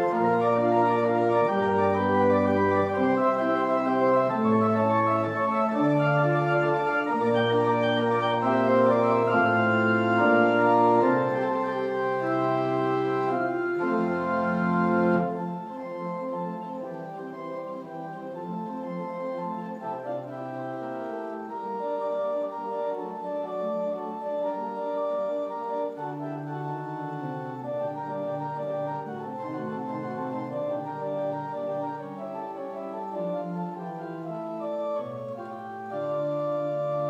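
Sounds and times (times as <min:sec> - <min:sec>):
organ playing sustained chords: 0:00.0 - 0:37.0.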